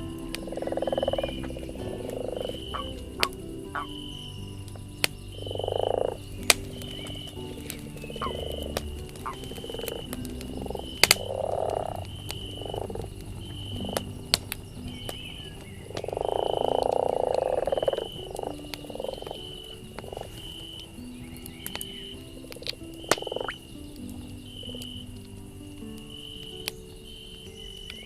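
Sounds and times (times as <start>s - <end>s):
campfire crackling and popping: 0.0s - 28.0s
frogs croaking: 0.0s - 28.0s.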